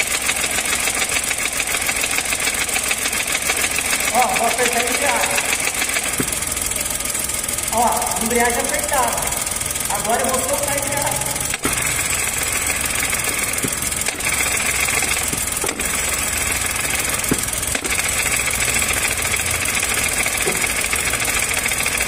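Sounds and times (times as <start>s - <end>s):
car engine idling: 0.0s - 22.0s
high whine from gearbox: 2.0s - 22.0s.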